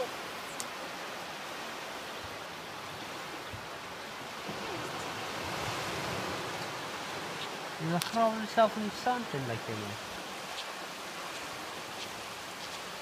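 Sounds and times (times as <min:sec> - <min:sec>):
surf washing over sand: 0:00.0 - 0:13.0.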